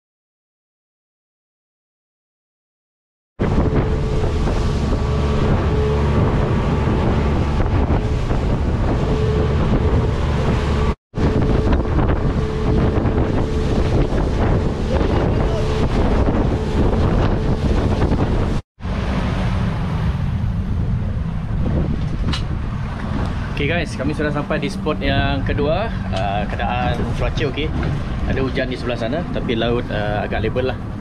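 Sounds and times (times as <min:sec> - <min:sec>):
boat engine hum: 0:03.4 - 0:31.0
rushing water: 0:03.4 - 0:31.0
wind buffeting microphone: 0:03.4 - 0:31.0.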